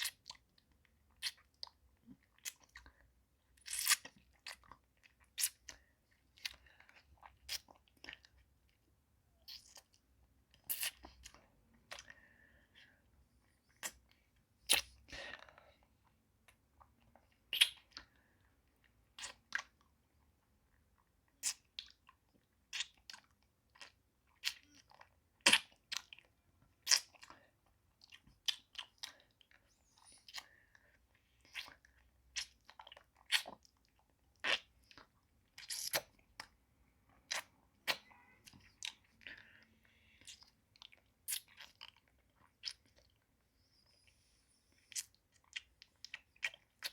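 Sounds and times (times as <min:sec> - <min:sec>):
sucking and biting hard candy: 0:00.0 - 0:20.0, 0:20.8 - 0:46.9.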